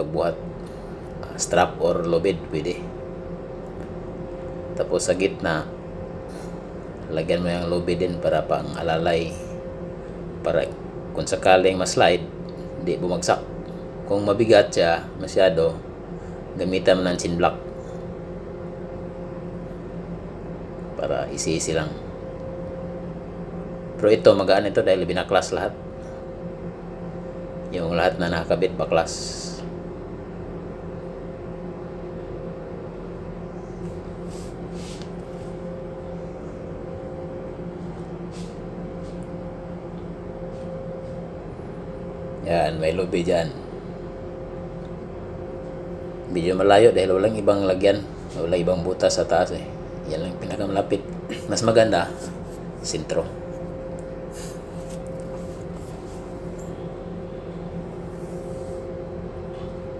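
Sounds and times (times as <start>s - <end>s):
ship machinery hum: 0.0s - 59.9s.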